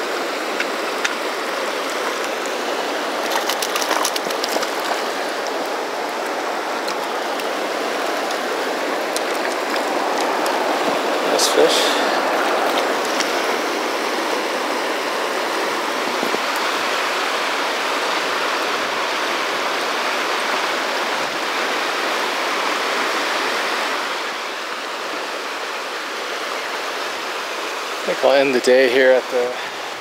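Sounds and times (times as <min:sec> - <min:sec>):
river rushing over rocks: 0:00.0 - 0:30.0.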